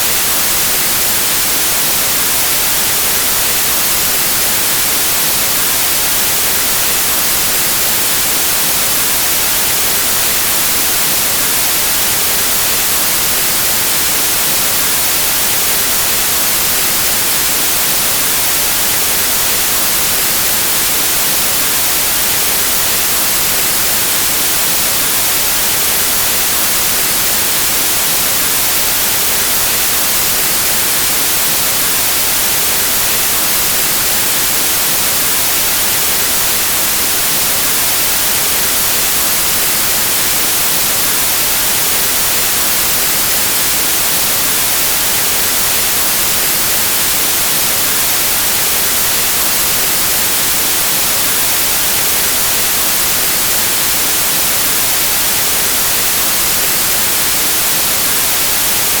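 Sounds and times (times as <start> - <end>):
white noise static hiss: 0.0 - 59.0.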